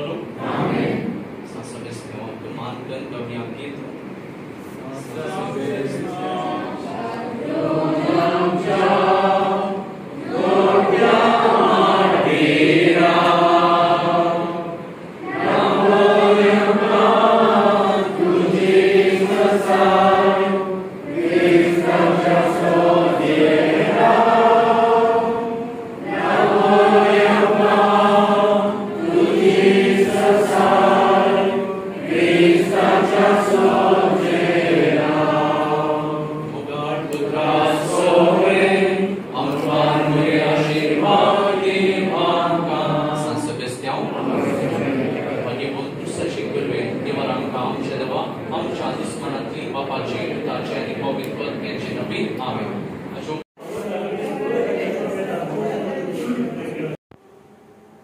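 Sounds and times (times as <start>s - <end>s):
group singing a hymn: 0.0s - 1.4s, 5.0s - 51.8s, 53.6s - 57.0s.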